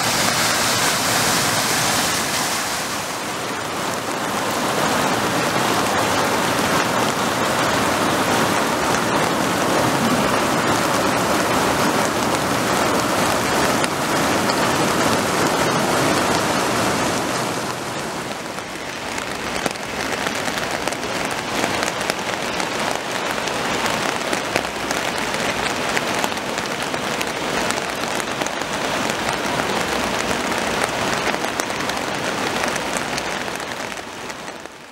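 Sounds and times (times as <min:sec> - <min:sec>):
crackling hiss of rain: 0:00.0 - 0:34.9
floodwater gushing: 0:00.0 - 0:34.9.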